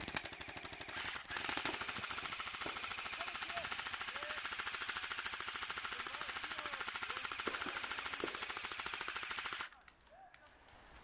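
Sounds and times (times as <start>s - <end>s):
airsoft rifle firing full auto: 0.0s - 9.8s.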